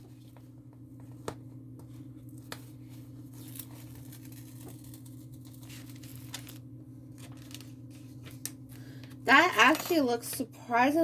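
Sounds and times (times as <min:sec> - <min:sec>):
steady low hum: 0:00.0 - 0:11.0
rustling and crinkling plastic: 0:01.1 - 0:10.4.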